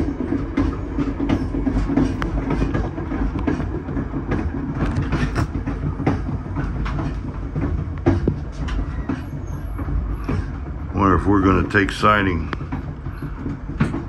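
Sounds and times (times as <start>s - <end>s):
rumble of moving train: 0.0s - 14.0s
train wheels clicking over rail joints: 0.0s - 14.0s.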